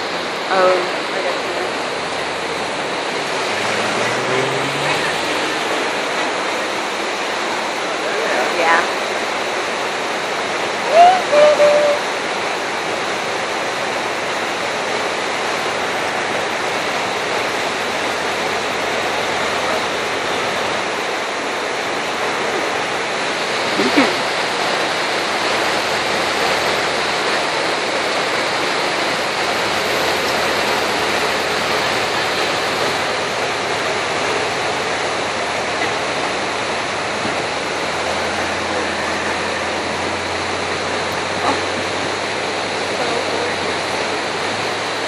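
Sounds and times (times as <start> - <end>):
flowing water rushing: 0.0 - 45.0.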